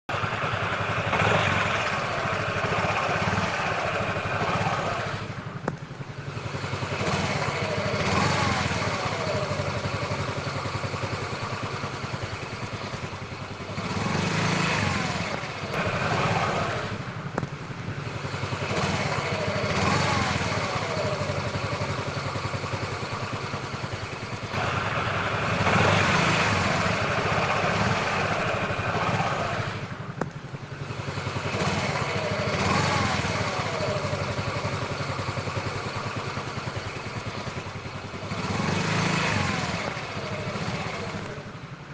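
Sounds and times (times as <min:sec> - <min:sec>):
scooter engine revving: 0:00.0 - 0:41.9.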